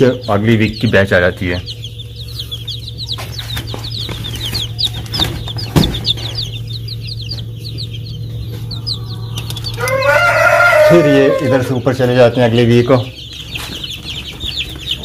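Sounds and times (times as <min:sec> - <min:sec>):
chicks peeping: 0:00.0 - 0:15.0
steady low hum: 0:00.0 - 0:15.0.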